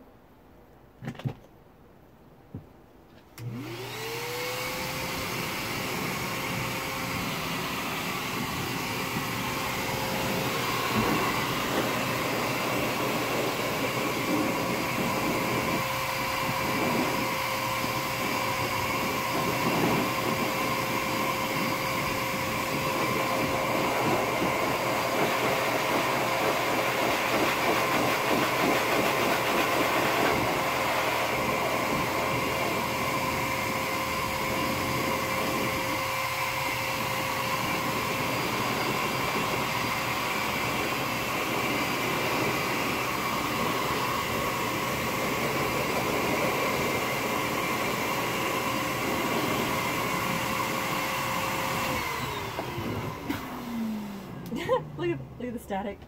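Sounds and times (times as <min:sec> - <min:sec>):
air blower motor whining: 0:03.4 - 0:56.0.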